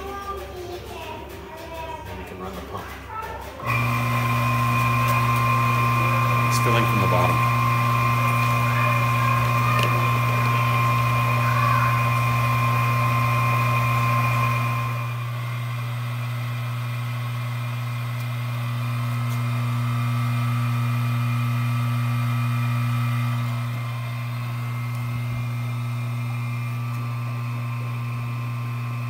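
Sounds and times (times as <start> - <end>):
electric pump humming: 3.6 - 29.0.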